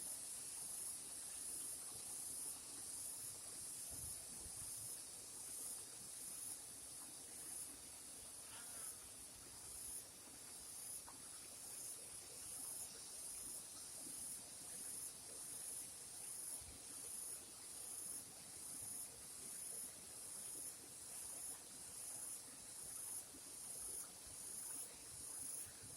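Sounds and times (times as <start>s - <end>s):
faint hiss: 0.0s - 25.9s.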